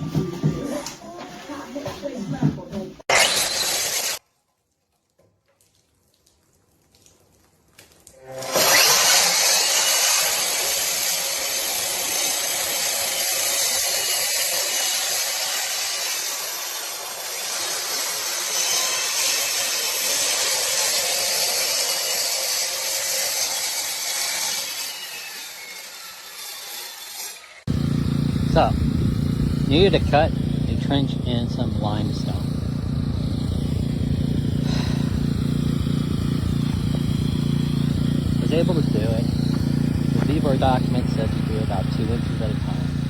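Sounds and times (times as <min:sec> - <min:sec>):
concrete saw cutting stone: 0:03.0 - 0:04.2, 0:08.2 - 0:43.0.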